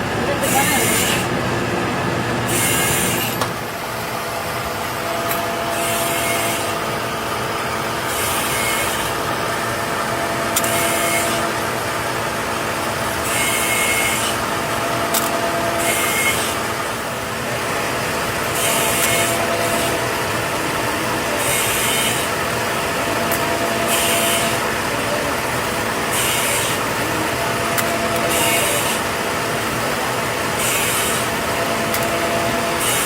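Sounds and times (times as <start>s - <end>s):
workshop machinery running: 0.0s - 33.0s
high hissing grinding bursts: 0.3s - 1.4s, 2.4s - 3.4s, 5.4s - 7.3s, 8.0s - 12.2s, 12.9s - 33.0s.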